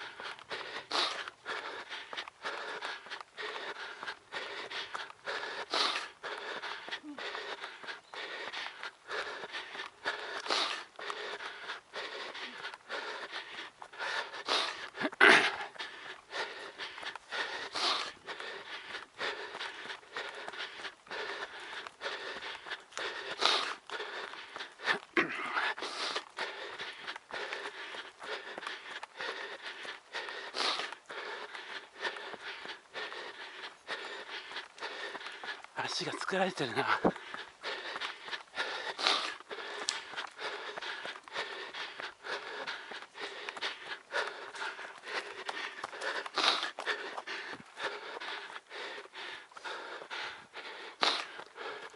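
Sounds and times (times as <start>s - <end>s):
person panting heavily: 0.0s - 51.9s.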